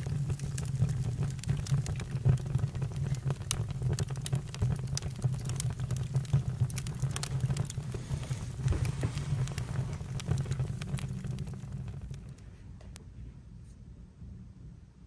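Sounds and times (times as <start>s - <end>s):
campfire crackling: 0.0s - 12.5s.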